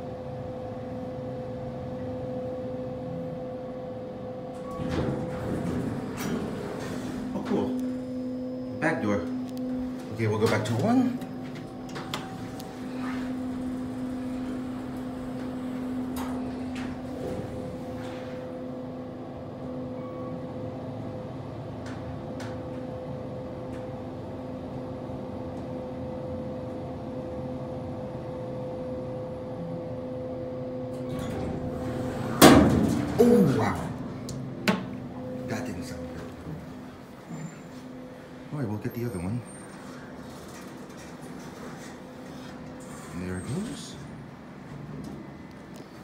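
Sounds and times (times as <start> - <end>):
elevator hum: 0.0 - 46.0.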